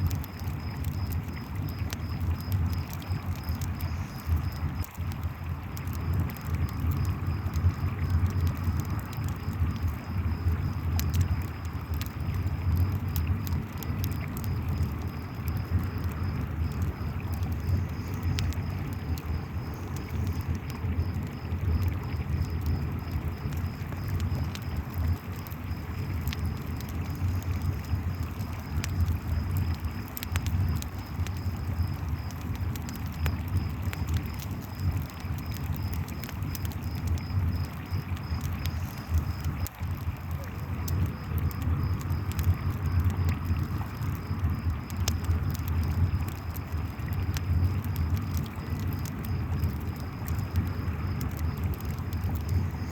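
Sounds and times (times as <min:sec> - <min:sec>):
campfire crackling and popping: 0:00.0 - 0:52.9
crickets trilling: 0:00.0 - 0:52.9.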